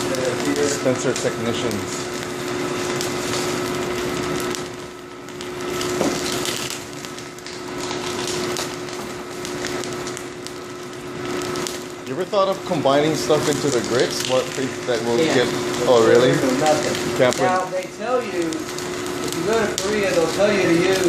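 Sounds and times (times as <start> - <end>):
continuous crackling hiss: 0.0 - 21.0.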